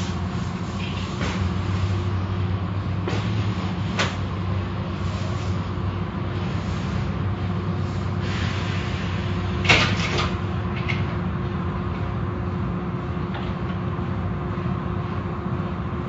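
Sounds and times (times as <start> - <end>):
car wash machinery rumbling: 0.0 - 16.0.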